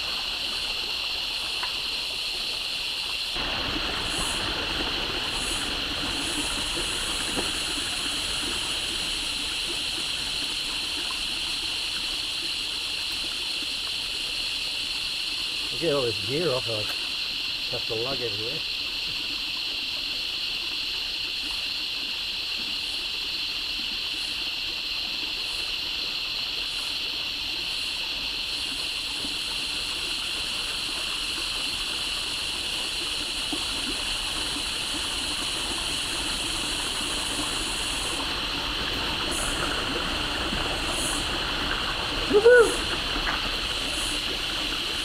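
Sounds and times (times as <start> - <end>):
cicada chorus drone: 0.0 - 45.0
creek water running: 0.0 - 45.0.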